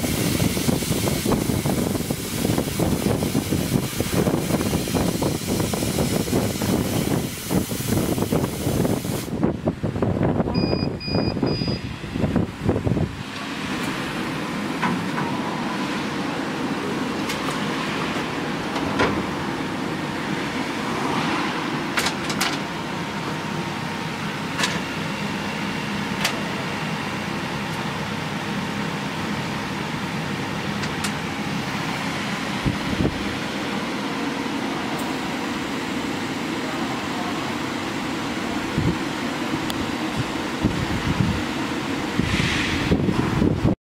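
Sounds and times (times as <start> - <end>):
fan and air pump whirring: 0.0 - 43.8.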